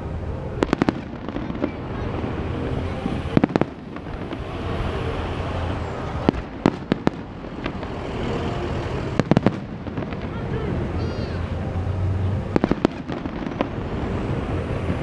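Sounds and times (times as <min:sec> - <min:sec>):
outdoor background noise: 0:00.0 - 0:15.0
distant fireworks bangs: 0:00.6 - 0:15.0.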